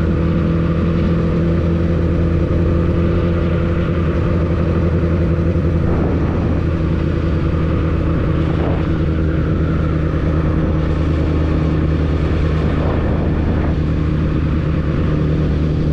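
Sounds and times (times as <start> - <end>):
motorcycle engine running steadily: 0.0 - 15.9.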